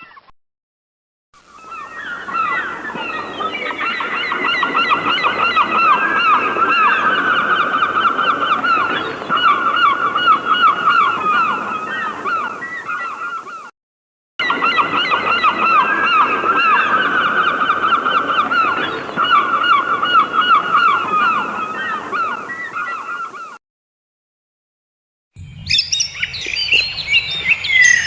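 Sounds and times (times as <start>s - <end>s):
flock of birds calling: 1.6s - 13.7s, 14.4s - 23.6s, 25.7s - 28.0s.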